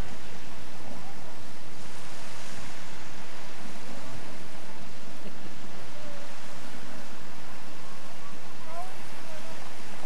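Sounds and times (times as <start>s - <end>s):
choppy sea water: 0.0s - 10.0s
wind buffeting microphone: 0.0s - 10.0s.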